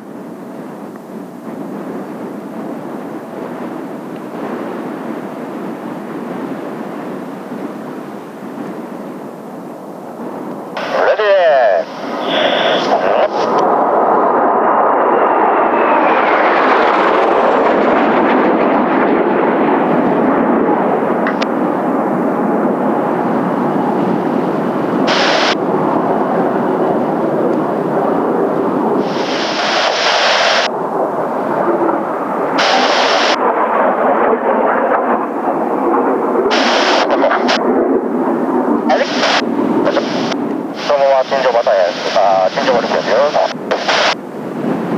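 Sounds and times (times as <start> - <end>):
wind buffeting microphone: 0.0 - 40.9, 42.0 - 44.9
jet engines roaring: 0.0 - 44.9.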